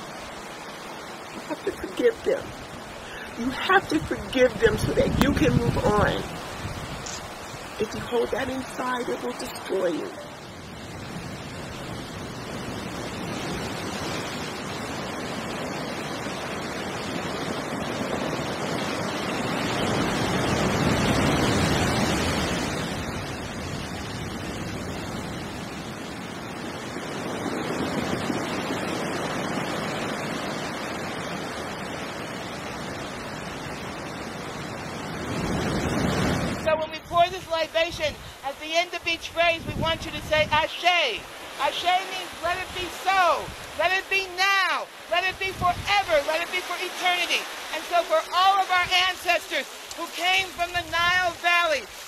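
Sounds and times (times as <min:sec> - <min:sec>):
water rushing over rocks: 0:00.0 - 0:52.0.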